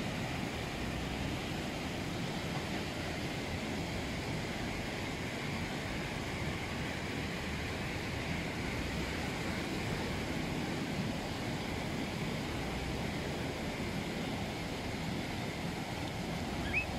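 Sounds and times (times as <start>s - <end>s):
small waves washing on sand: 0.0s - 16.9s.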